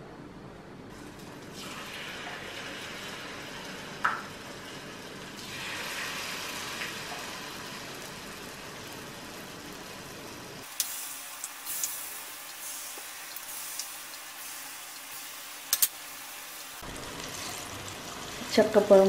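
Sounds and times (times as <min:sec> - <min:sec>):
oil sizzling in a saucepan: 0:01.0 - 0:19.0.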